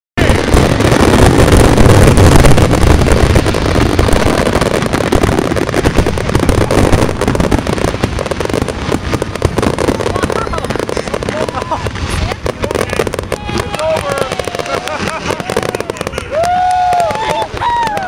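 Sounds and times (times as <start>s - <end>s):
fireworks booming and crackling: 0.2s - 18.0s.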